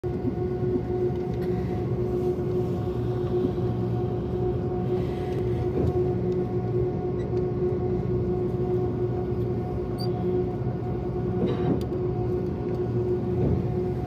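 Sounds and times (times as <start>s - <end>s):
airliner cabin rumble: 0.0s - 14.0s
jet engines idling hum: 0.0s - 14.0s.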